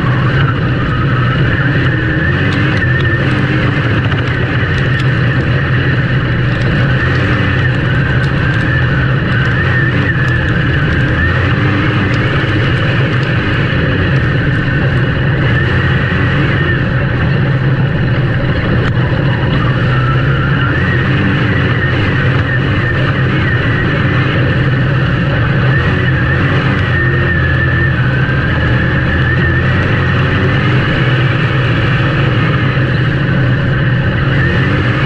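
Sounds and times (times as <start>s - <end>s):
race car engine running: 0.0s - 35.0s.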